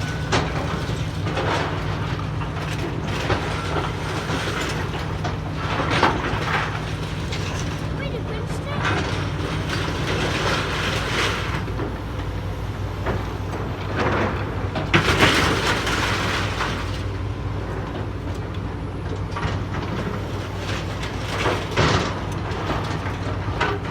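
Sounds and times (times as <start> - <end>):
excavator diesel engines running: 0.0 - 23.9.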